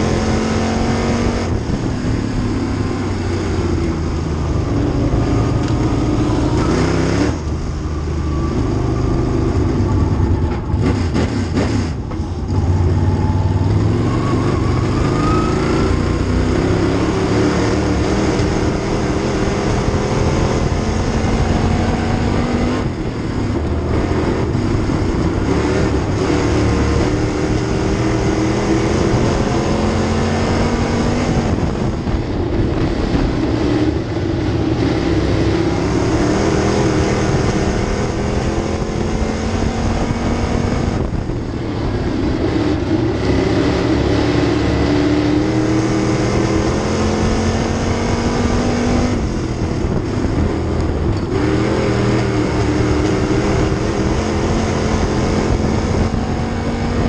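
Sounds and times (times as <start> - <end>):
race car engine at racing speed: 0.0 - 57.0
wind and track noise: 0.0 - 57.0.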